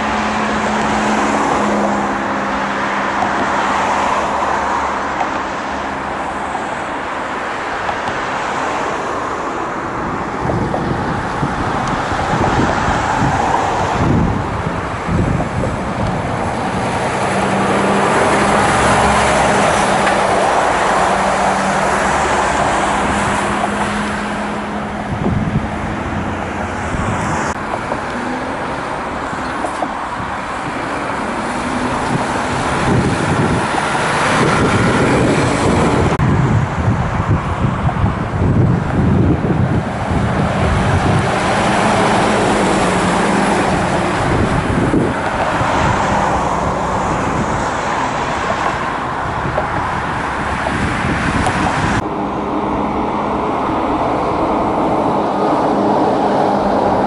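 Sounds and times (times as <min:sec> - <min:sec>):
road traffic: 0:00.0 - 0:57.0
truck diesel engine drone: 0:00.0 - 0:57.0
truck moving through junction: 0:00.0 - 0:57.0
tyre and road noise: 0:00.0 - 0:57.0.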